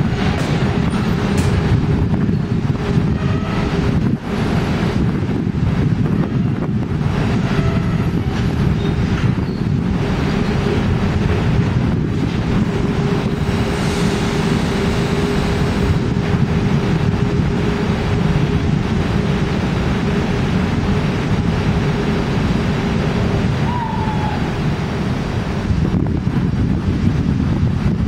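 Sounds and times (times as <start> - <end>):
electric locomotive rumbling: 0.0 - 28.0.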